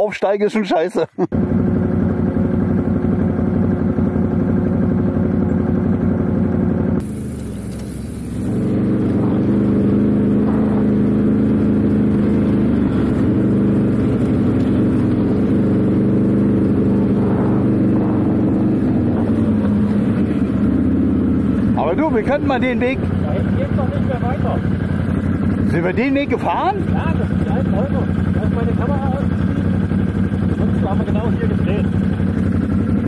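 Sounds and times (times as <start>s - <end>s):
motorcycle engine running: 1.3s - 33.0s.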